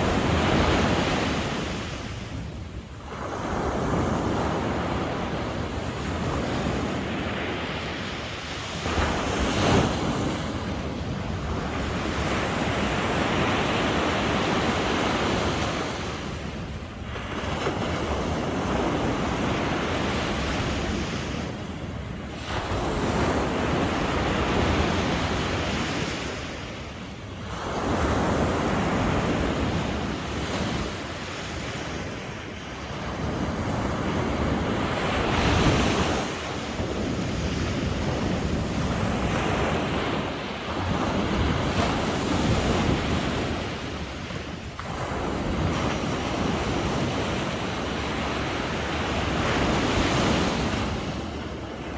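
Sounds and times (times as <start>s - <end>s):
sea waves breaking on shore: 0.0s - 51.9s
wind rumbling on microphone: 0.0s - 51.9s.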